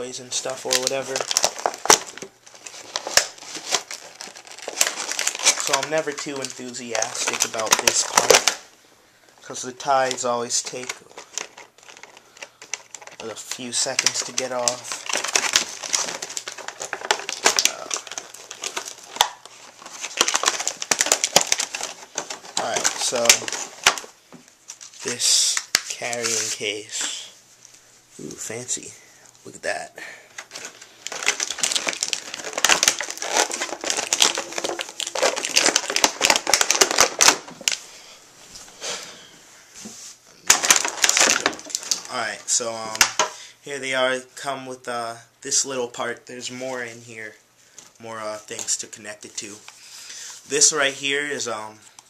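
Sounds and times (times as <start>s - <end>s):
plastic crinkling and rustling: 0.0s - 8.8s, 9.4s - 28.9s, 30.3s - 37.8s, 39.7s - 44.5s, 45.5s - 52.0s.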